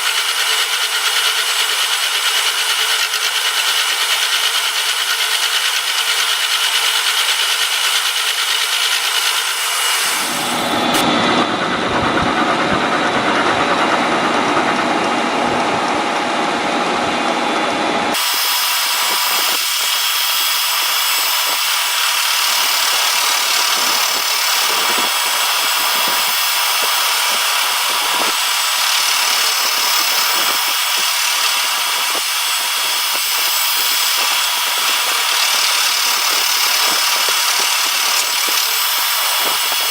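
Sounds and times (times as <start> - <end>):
milling machine cutting metal: 0.0 - 11.5, 18.1 - 39.9.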